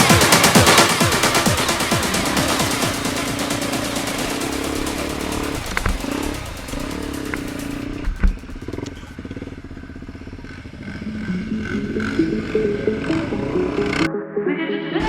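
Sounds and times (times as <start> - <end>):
atv engine running: 0.0 - 14.1.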